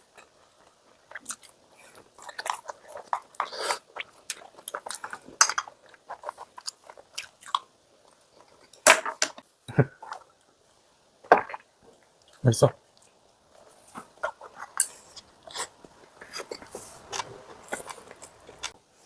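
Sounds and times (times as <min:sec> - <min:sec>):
crunchy chewing: 0:00.0 - 0:08.8, 0:11.4 - 0:18.8.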